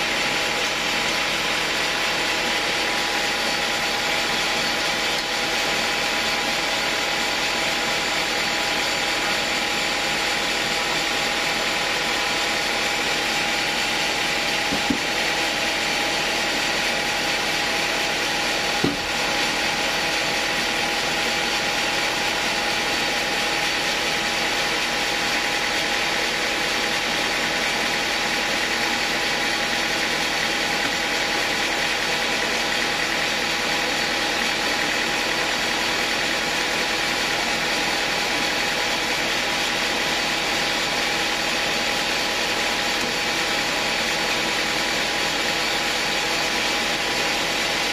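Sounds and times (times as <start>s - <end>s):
sawmill droning: 0.0s - 47.9s.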